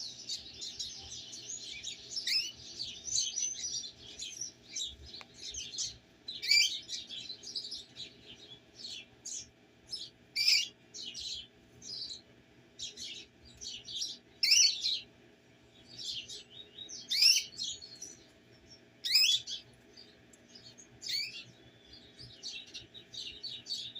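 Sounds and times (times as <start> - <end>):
canaries chirping: 0.0 - 15.1, 15.8 - 23.9.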